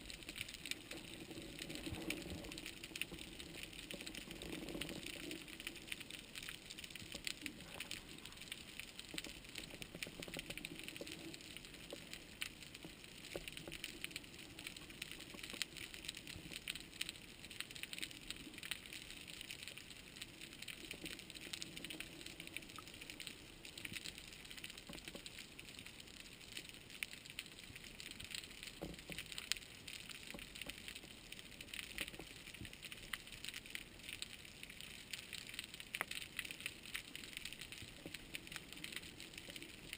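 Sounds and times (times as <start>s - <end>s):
underwater crackle of tiny clicks: 0.0s - 39.9s.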